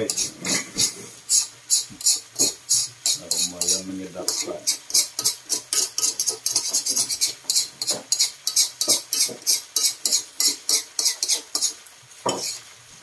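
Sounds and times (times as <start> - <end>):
spatula scraping a steel wok: 0.0 - 12.7.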